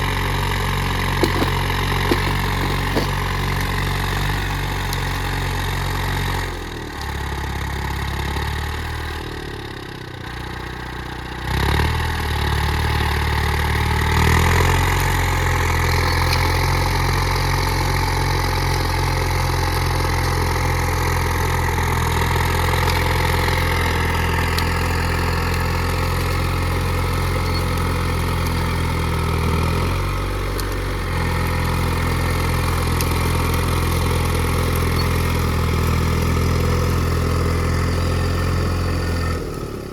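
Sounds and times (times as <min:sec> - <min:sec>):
diesel engine running hard: 0:00.0 - 0:39.9.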